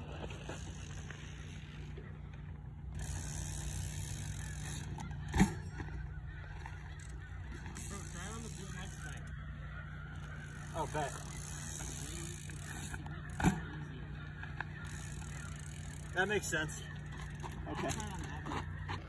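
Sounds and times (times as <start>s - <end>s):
bike tyres rolling on dirt: 0.0s - 19.0s.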